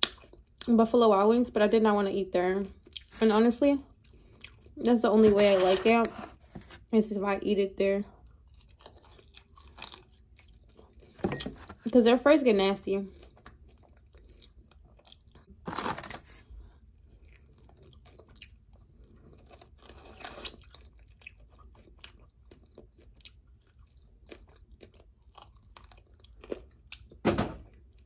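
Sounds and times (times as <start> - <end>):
chewing and crunching food: 0.0 - 0.8, 2.6 - 6.9, 8.0 - 12.1, 12.8 - 28.0.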